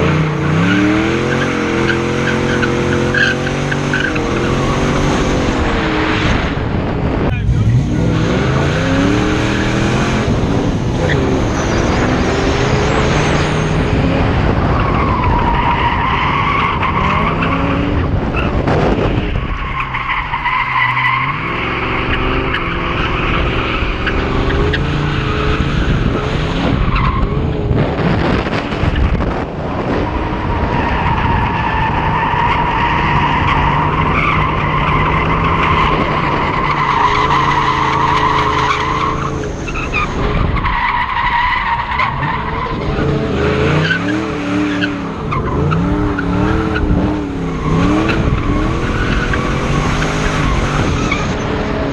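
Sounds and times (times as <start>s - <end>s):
car engine at high revs: 0.0s - 51.9s.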